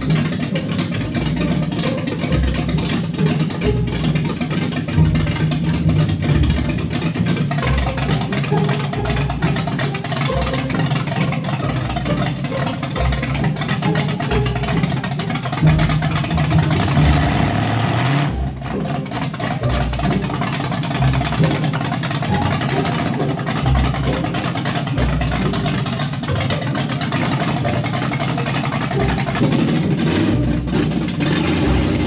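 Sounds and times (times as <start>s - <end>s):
loud engine through open headers: 0.0s - 32.0s.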